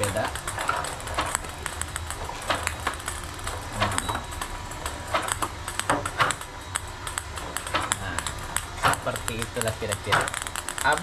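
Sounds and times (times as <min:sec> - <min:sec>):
low motor hum: 0:00.0 - 0:11.0
ping pong balls clicking: 0:00.0 - 0:11.0.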